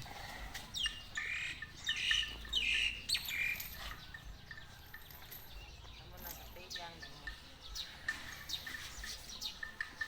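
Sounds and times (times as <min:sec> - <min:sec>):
bird chirping: 0:00.1 - 0:10.0.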